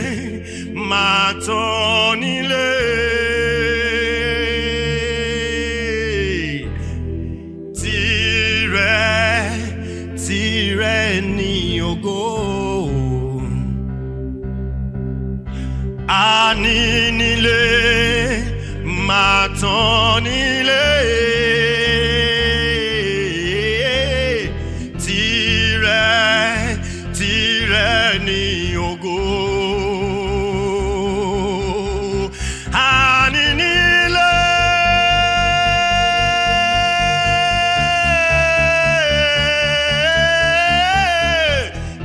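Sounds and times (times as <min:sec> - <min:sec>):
person singing worship song: 0:00.0 - 0:14.0, 0:15.5 - 0:42.0
sustained instrumental backing: 0:00.0 - 0:42.0.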